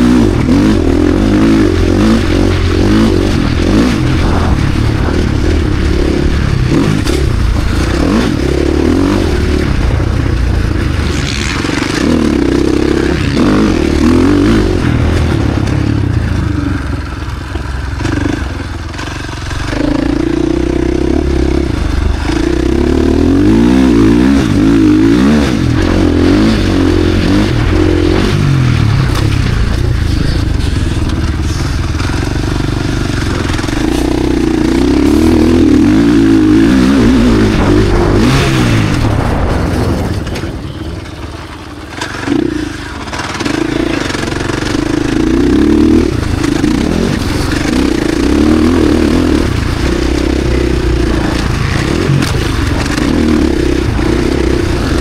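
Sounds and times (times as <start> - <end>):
motocross engine revving: 0.0 - 40.6, 41.4 - 55.0.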